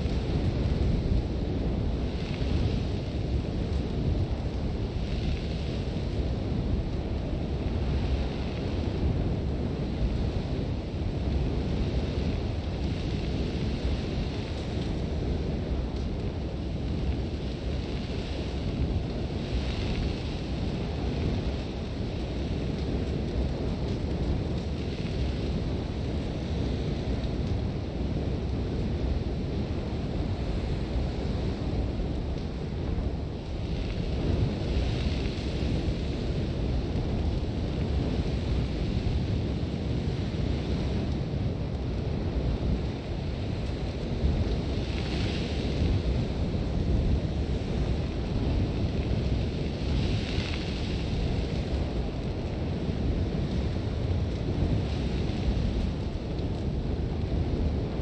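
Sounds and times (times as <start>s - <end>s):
sandstorm wind rumbling: 0.0s - 58.0s.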